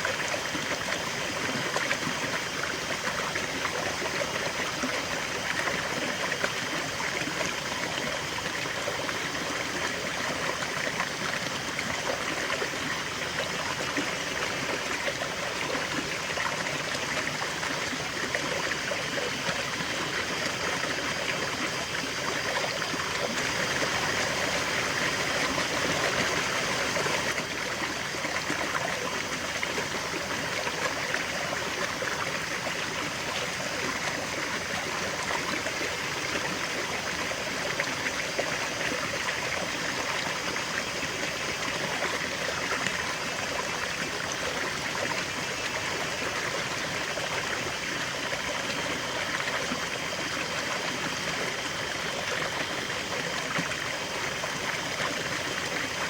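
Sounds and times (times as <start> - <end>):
river water over rocks: 0.0 - 56.0.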